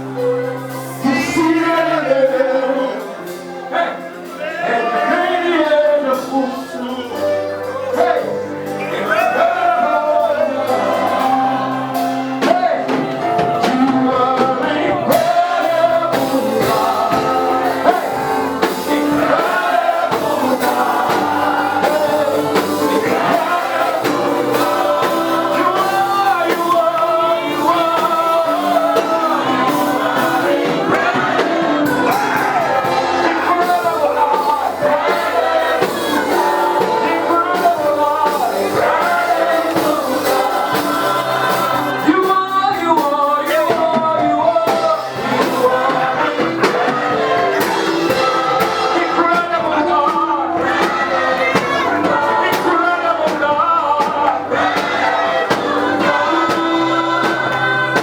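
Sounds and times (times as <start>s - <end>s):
live gospel music with singing: 0.0s - 58.0s.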